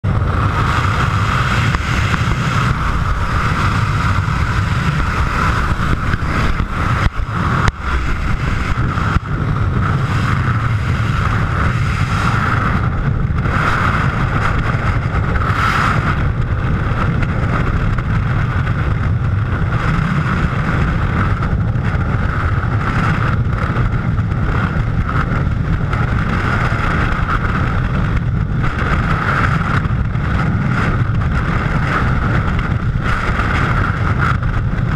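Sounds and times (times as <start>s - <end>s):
plane cabin noise: 0.0s - 34.9s
wind buffeting helmet camera: 0.0s - 34.9s.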